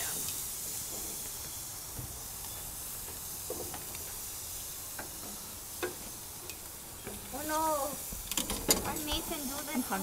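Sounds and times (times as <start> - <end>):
food hissing on a grill: 0.0 - 10.0.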